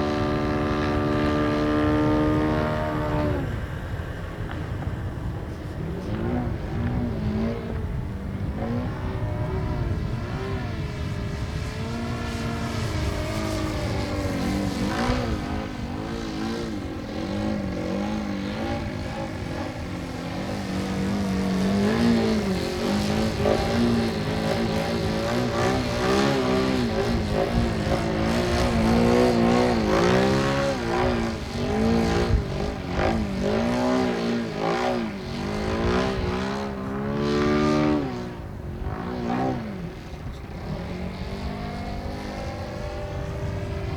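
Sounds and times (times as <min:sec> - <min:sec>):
model airplane motor and propeller: 0:00.0 - 0:43.9.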